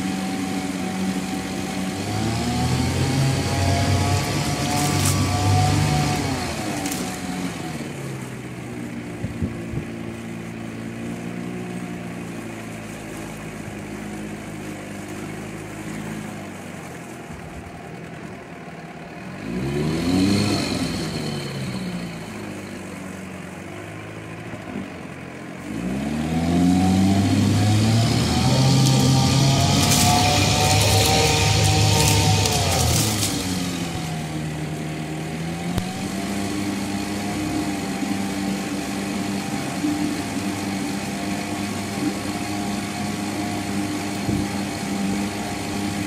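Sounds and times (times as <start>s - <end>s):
outboard motor idling and revving: 0.0s - 46.0s.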